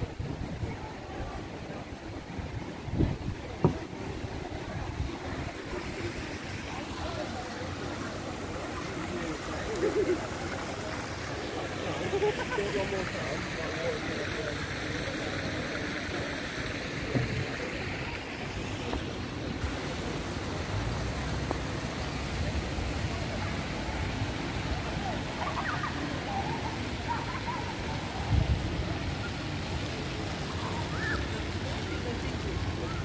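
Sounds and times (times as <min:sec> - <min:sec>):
faint distant voices: 0:00.0 - 0:33.0.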